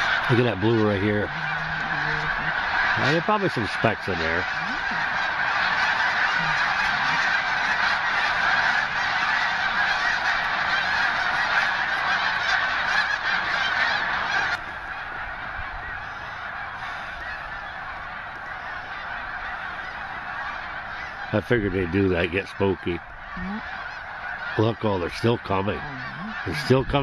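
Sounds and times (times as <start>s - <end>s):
flock of geese honking: 0.0s - 27.0s.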